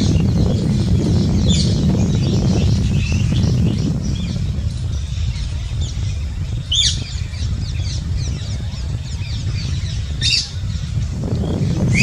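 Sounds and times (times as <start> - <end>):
downward sweeping bird calls: 0.0 - 12.0
small birds chirping: 0.0 - 12.0
steady low rumble: 0.0 - 12.0.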